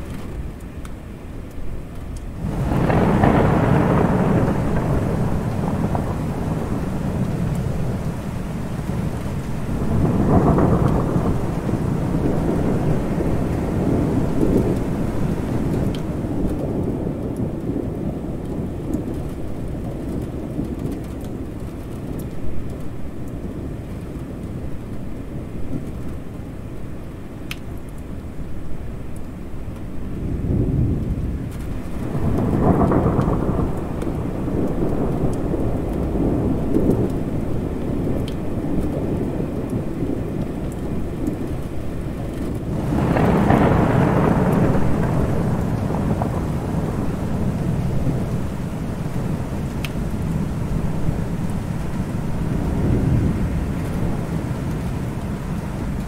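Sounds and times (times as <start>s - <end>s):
steady rain: 0.0s - 56.0s
rolling thunder: 2.2s - 24.4s, 30.1s - 56.0s.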